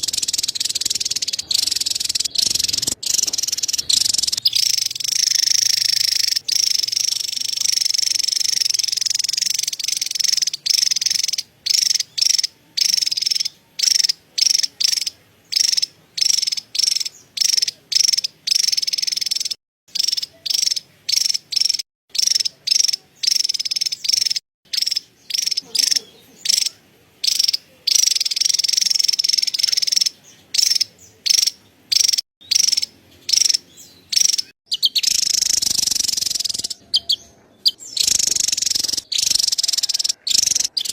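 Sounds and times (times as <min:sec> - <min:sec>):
bird chattering call: 0:00.0 - 0:40.9.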